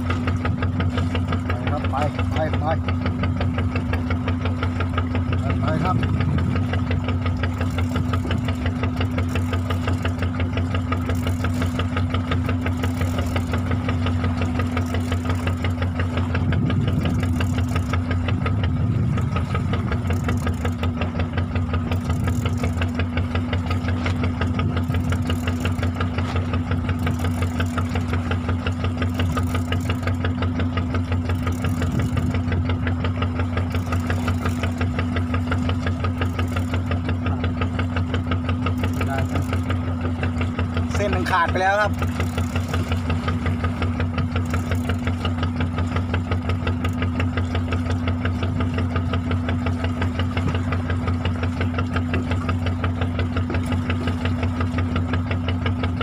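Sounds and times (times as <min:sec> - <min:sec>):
boat engine chugging: 0:00.0 - 0:56.0.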